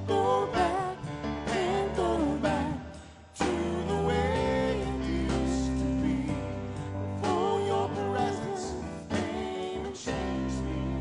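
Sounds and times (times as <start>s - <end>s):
low bass: 0.0s - 11.0s
person singing: 0.0s - 11.0s.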